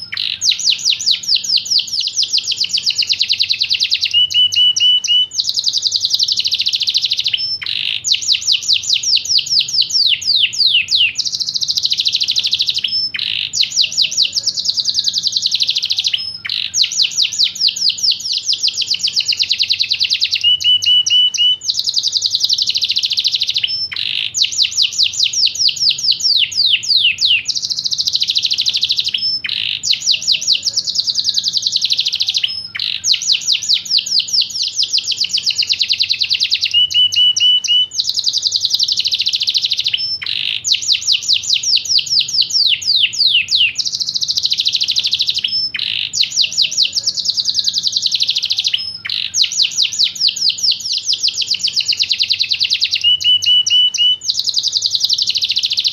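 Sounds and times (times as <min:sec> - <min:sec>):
canary singing rapid trills: 0:00.0 - 0:55.9.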